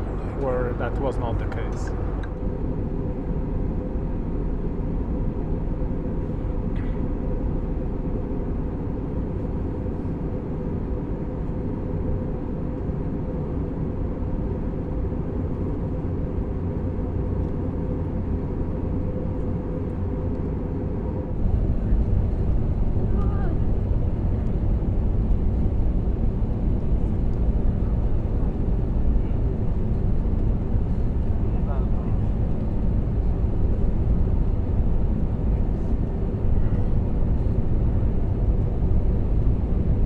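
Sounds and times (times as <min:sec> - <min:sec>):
aircraft cabin rumble: 0:00.0 - 0:40.0
steady cabin hum: 0:00.0 - 0:40.0.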